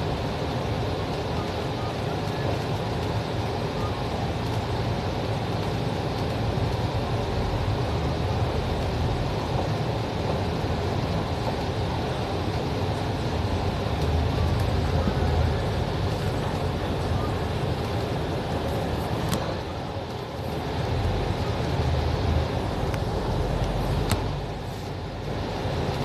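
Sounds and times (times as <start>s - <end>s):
bus engine rumble and road noise: 0.0s - 26.0s.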